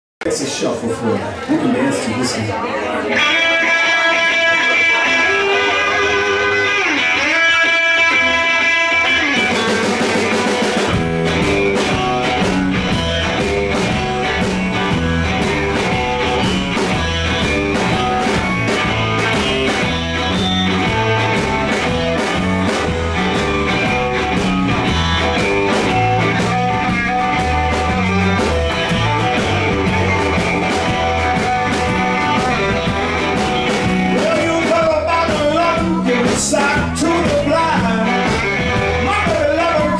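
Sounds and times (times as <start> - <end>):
electric guitar: 2.7 - 39.9
bass guitar: 3.0 - 39.9
drums: 3.0 - 39.9.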